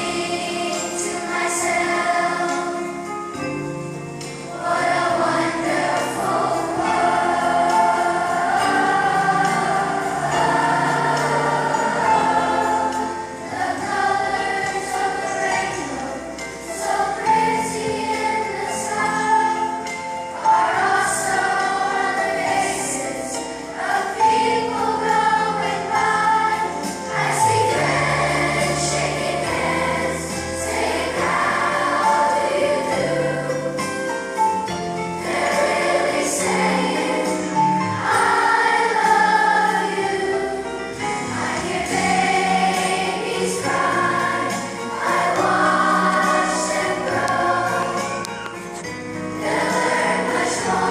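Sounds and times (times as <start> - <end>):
children's choir singing: 0.0 - 50.9
instrumental accompaniment with bass: 0.0 - 50.9.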